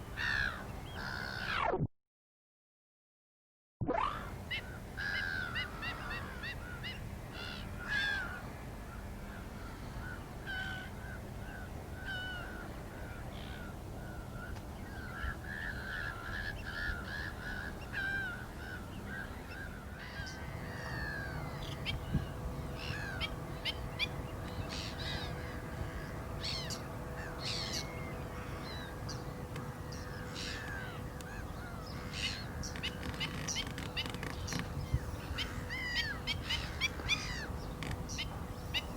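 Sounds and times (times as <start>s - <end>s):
faint steady hum: 0.0s - 1.5s, 4.0s - 38.9s
birds calling: 0.1s - 1.6s, 4.1s - 38.9s.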